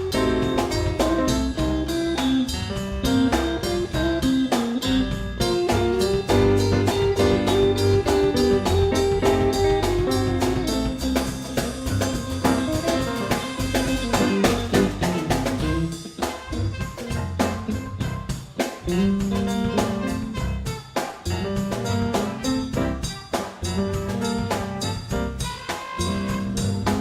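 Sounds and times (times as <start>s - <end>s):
instrumental band playing: 0.0s - 27.0s.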